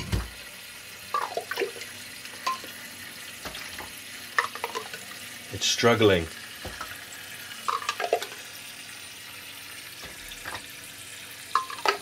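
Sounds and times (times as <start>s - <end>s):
water pouring and gurgling: 0.0s - 12.0s.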